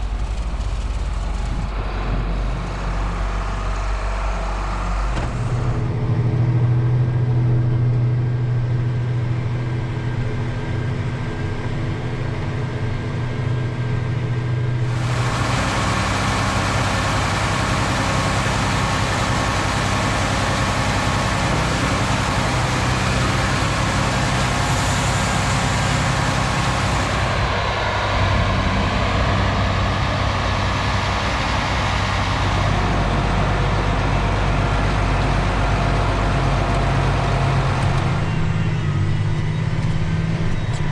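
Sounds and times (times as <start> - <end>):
heavy machinery engines running: 0.0 - 11.6, 14.8 - 40.9.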